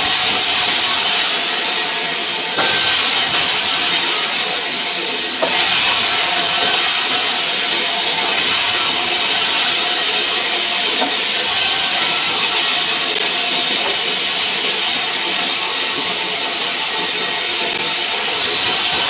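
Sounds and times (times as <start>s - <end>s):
saw cutting through log: 0.0s - 19.0s.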